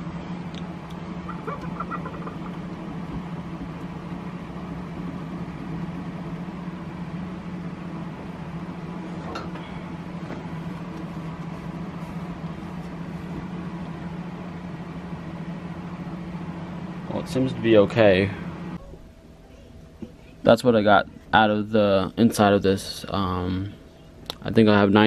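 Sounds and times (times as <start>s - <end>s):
computer humming: 0.0s - 25.0s.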